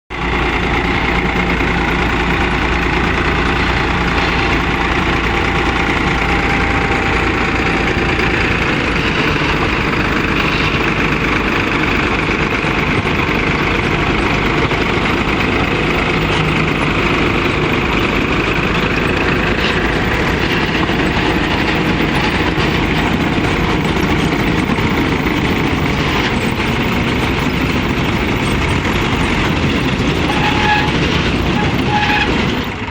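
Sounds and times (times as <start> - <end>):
tractor diesel engine running: 0.1 - 32.9.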